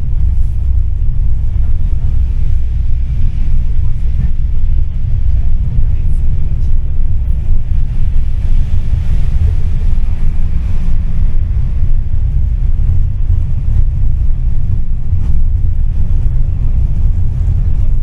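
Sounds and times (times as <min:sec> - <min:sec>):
tram rumbling: 0:00.0 - 0:18.0.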